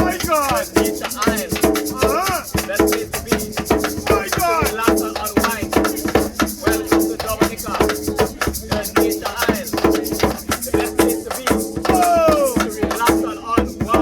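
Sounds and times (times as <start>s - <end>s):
drums keeping fast beat: 0.0s - 14.0s
shakers: 0.0s - 14.0s
voices: 0.0s - 14.0s.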